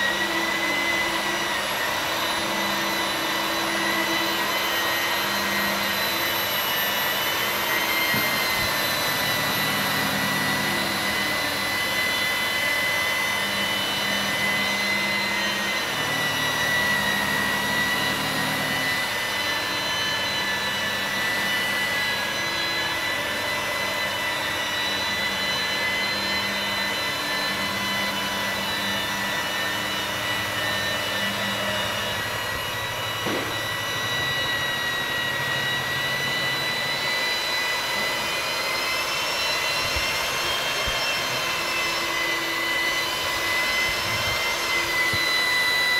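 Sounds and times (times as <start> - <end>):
angle grinder motor whine: 0.0 - 45.9.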